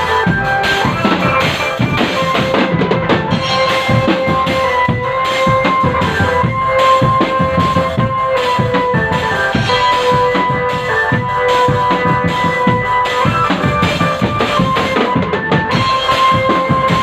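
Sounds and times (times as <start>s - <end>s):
drum band playing: 0.0s - 17.0s
melody of long held notes: 0.0s - 17.0s.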